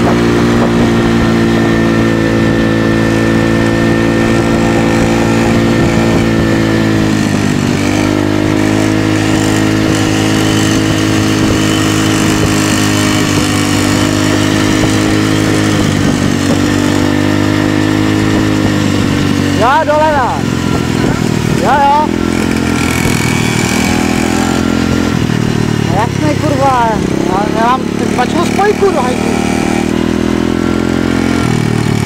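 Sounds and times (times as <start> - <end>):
motorcycle engine running loudly: 0.0 - 32.0.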